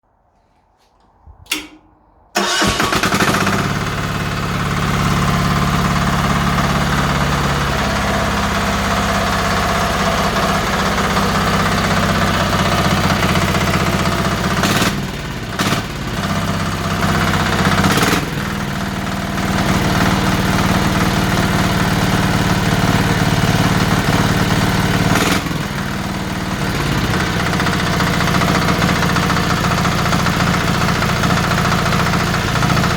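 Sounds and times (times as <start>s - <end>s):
engine starting and idling: 1.5s - 32.9s.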